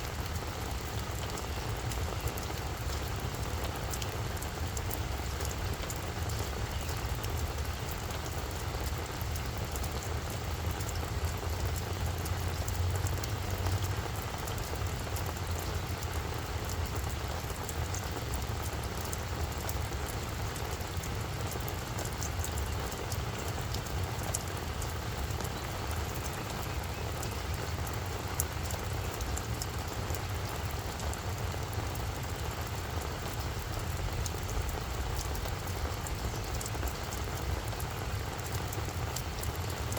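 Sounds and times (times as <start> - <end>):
rain on a flower bed: 0.0 - 39.9.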